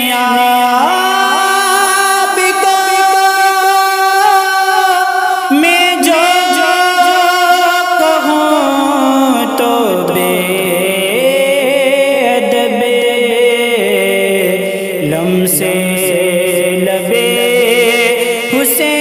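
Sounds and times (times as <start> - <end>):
person singing devotional song: 0.0 - 19.0.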